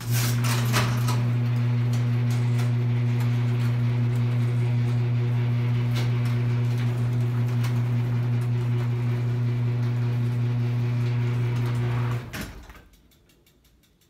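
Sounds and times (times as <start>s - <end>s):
garage door opener motor humming: 0.0s - 12.9s.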